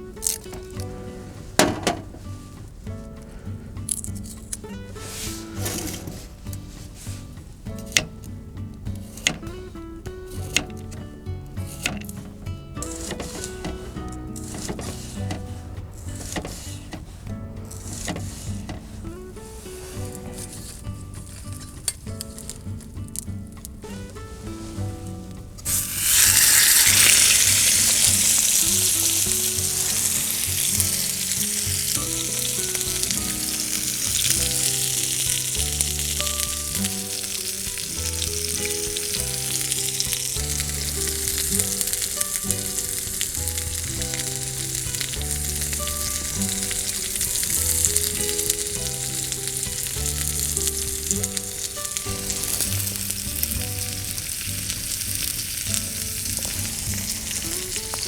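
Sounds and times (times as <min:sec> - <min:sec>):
steak sizzling in frying pan: 0:00.0 - 0:16.8, 0:17.6 - 0:58.0.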